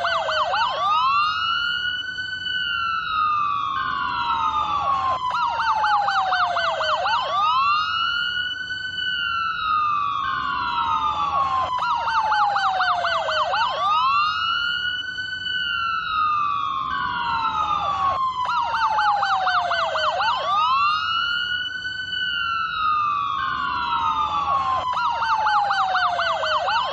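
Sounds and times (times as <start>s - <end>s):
police siren yelp and wail: 0.0s - 26.9s.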